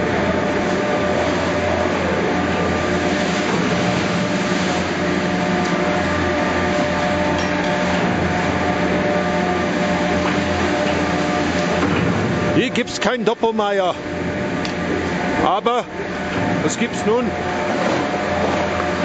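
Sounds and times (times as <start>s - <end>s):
chairlift machinery humming: 0.0s - 19.0s.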